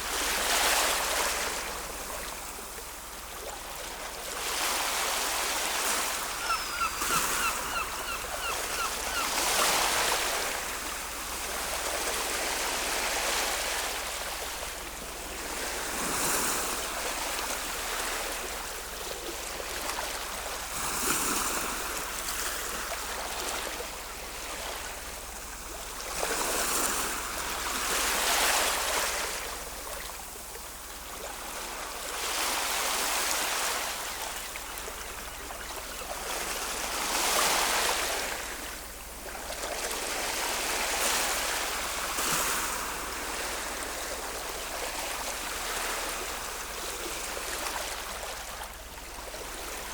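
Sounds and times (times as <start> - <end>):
ocean waves washing onto shore: 0.0 - 49.9.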